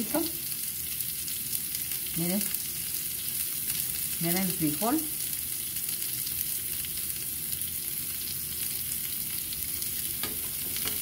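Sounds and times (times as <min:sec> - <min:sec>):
vegetables frying in oil: 0:00.0 - 0:11.0.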